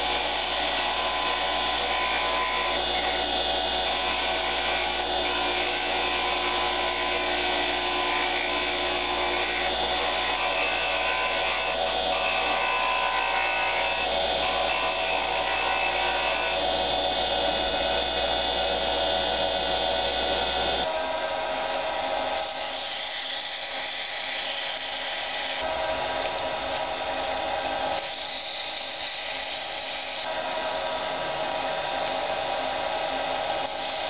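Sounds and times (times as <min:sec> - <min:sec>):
chisel cutting spinning wood: 0:00.0 - 0:34.0
wood lathe running: 0:00.0 - 0:34.0.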